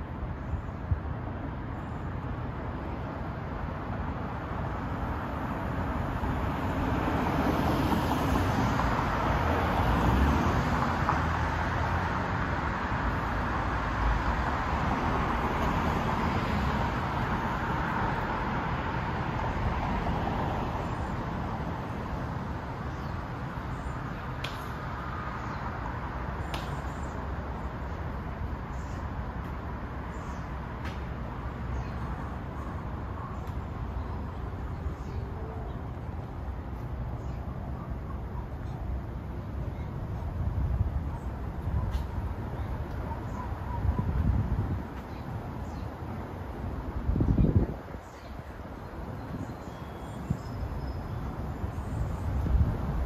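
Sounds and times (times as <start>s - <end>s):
road traffic noise: 0.0s - 53.0s.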